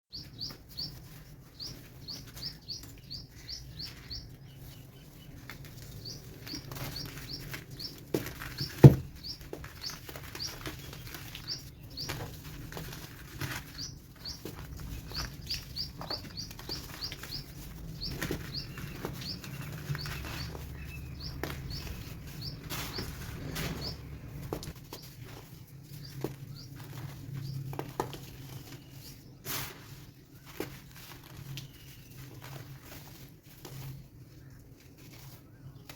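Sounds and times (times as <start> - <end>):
baking soda crunching: 0.9 - 35.9.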